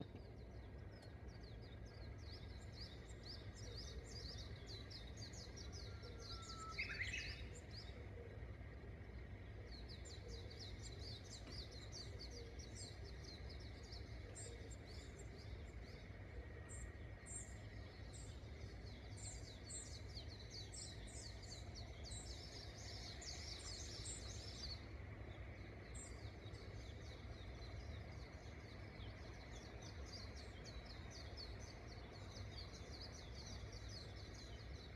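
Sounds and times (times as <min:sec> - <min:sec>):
bush warbler whistled song: 0:00.0 - 0:08.1, 0:09.2 - 0:34.9.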